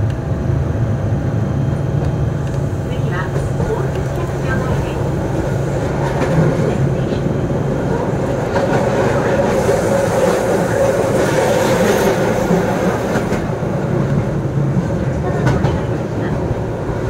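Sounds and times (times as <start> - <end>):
tram wheels and motors rumbling: 0.0 - 17.0.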